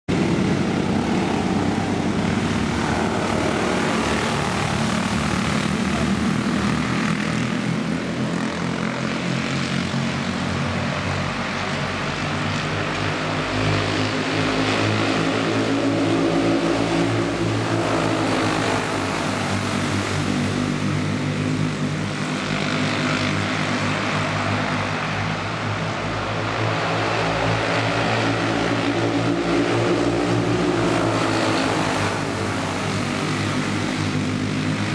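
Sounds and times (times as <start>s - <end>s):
kart engines buzzing: 0.1s - 34.9s.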